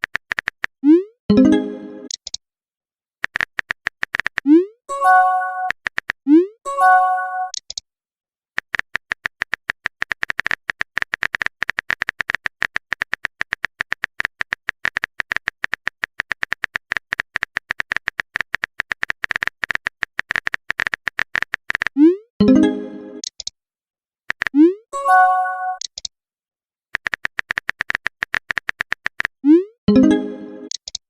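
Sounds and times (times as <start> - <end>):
keyboard typing clicks: 0.0 - 2.4, 3.2 - 7.8, 8.6 - 22.6, 23.2 - 23.5, 24.3 - 24.8, 25.7 - 26.1, 27.0 - 31.0.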